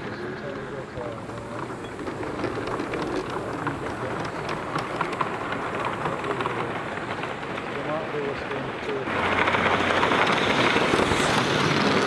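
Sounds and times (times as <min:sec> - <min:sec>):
model train wheels clattering: 0:00.0 - 0:12.0.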